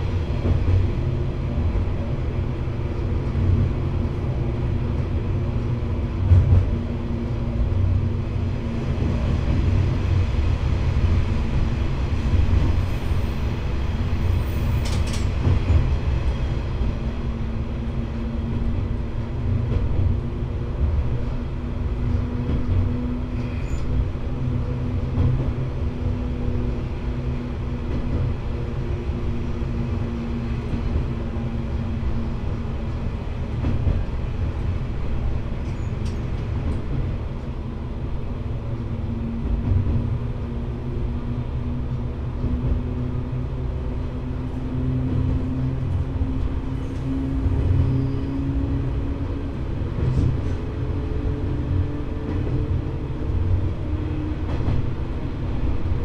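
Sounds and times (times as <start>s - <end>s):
railcar engine drone: 0.0s - 56.0s
wheels rumbling on rails: 0.0s - 56.0s.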